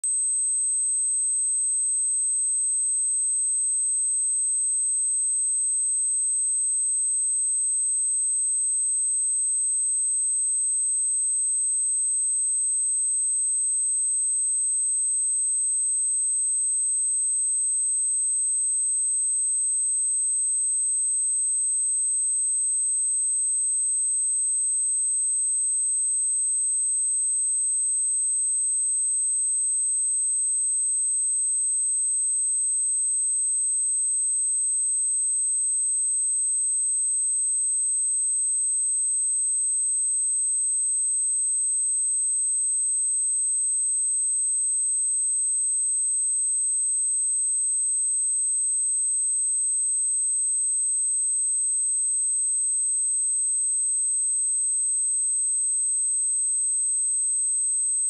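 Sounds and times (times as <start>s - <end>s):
sine-wave test tone: 0.0s - 58.0s.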